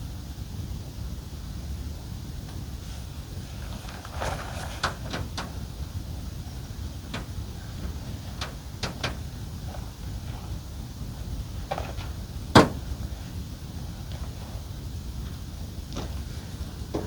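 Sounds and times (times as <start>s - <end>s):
steady low rumble: 0.0s - 17.0s
tent fabric handling noises: 2.7s - 16.9s.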